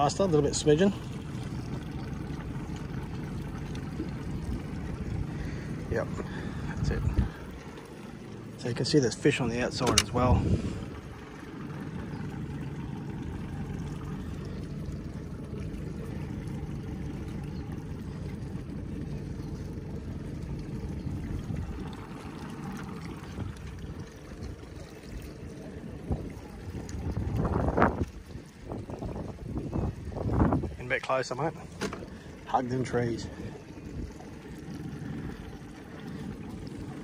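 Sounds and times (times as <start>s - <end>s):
boat motor running: 0.0s - 37.0s.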